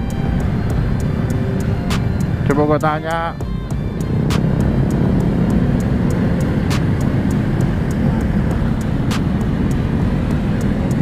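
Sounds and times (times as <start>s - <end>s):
motorcycle engines running: 0.0s - 11.0s
wind and road rush: 0.0s - 11.0s.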